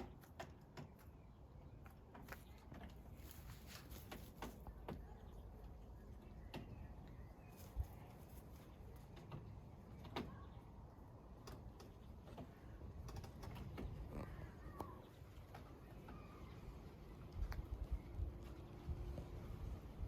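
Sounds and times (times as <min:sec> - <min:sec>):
chickens scratching and pecking: 0:00.0 - 0:19.7.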